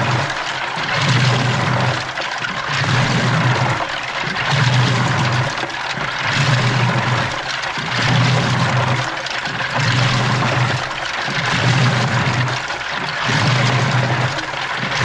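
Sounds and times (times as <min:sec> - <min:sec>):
washing machine motor hum: 0:00.0 - 0:15.0
water sloshing and churning: 0:00.0 - 0:15.0.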